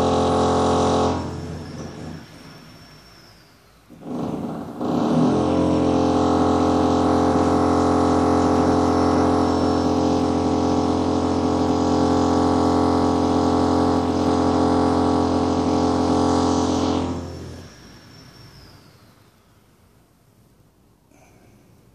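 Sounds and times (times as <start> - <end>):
power drill motor running: 0.0 - 19.2.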